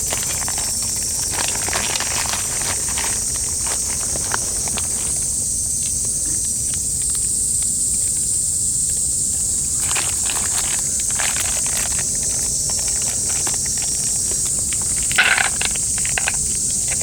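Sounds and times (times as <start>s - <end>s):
insects chorus: 0.0s - 17.0s
small clicks and rustles: 0.0s - 17.0s.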